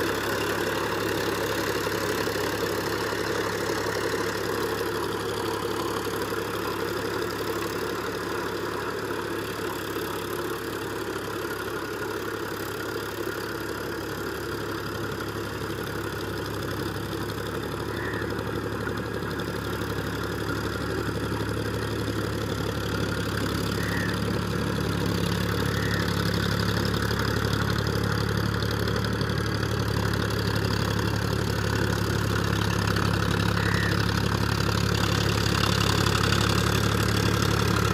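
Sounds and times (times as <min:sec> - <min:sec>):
tractor diesel engine under load: 0:00.0 - 0:37.9.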